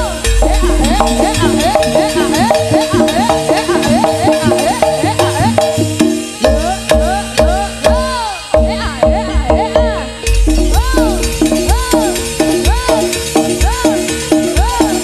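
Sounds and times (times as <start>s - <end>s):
deep bass drum: 0.0s - 15.0s
kendang drums: 0.0s - 15.0s
pitched percussion notes: 0.0s - 15.0s.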